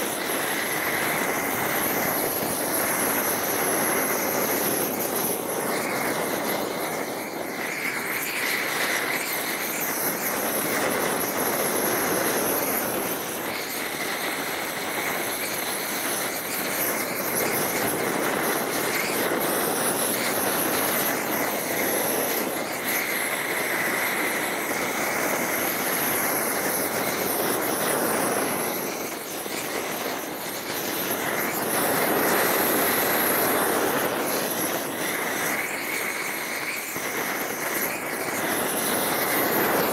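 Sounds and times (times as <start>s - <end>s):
gas torch burning: 0.0s - 39.9s.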